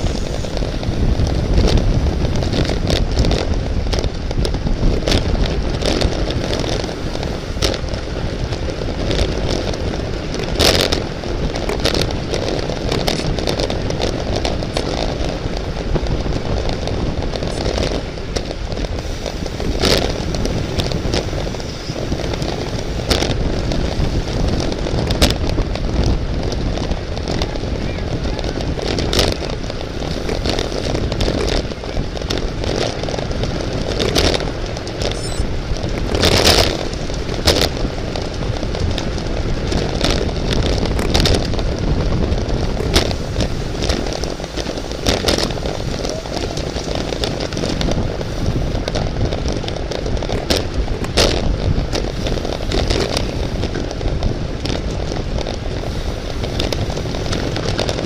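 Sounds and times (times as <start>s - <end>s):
bicycle road noise: 0.0s - 58.0s
rushing wind: 0.0s - 58.0s
sharp clicks and crackles: 0.0s - 58.0s.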